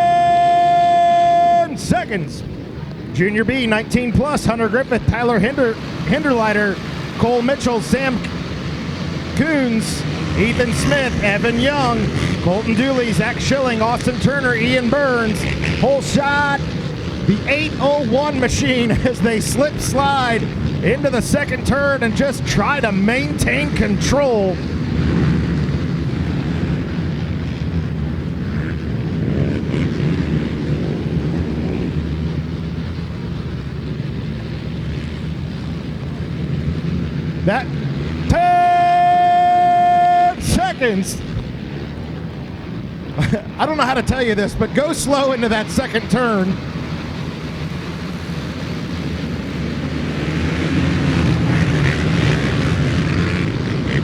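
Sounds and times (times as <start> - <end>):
many atv engines racing: 0.0 - 54.0.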